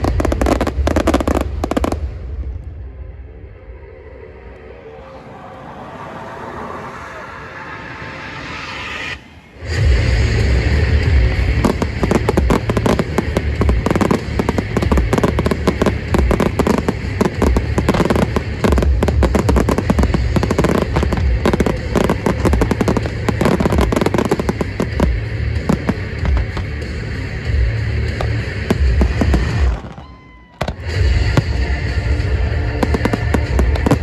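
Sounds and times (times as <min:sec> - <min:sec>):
firework barrage bangs and crackling: 0:00.0 - 0:02.9, 0:08.5 - 0:34.0.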